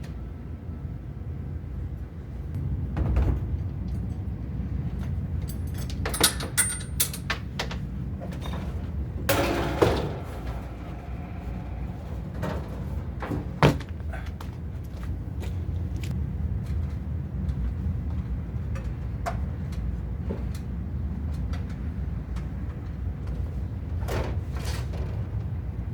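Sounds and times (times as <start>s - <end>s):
steady low rumble: 0.0s - 24.0s, 25.2s - 25.9s.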